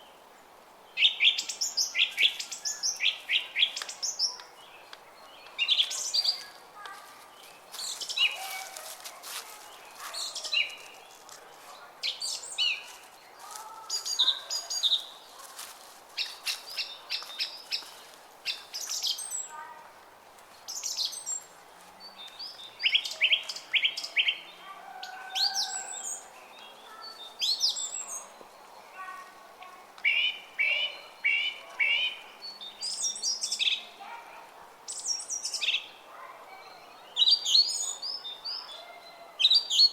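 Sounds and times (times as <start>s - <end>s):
songbirds chirping and singing: 0.0s - 19.7s, 20.7s - 39.9s.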